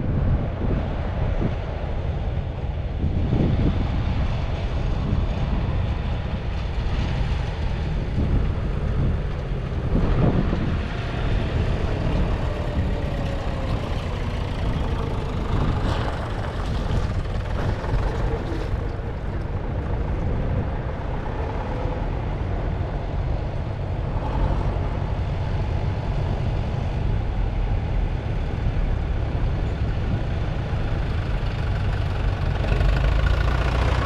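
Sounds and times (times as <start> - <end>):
diesel tractor engines passing: 0.0 - 34.0.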